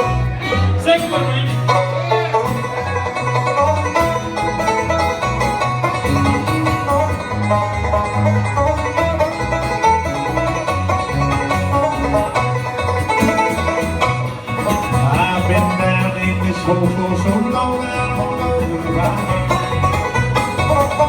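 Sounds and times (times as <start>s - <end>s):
banjo picking: 0.0s - 21.0s
guitar: 0.0s - 21.0s
stepping bass line: 0.0s - 21.0s.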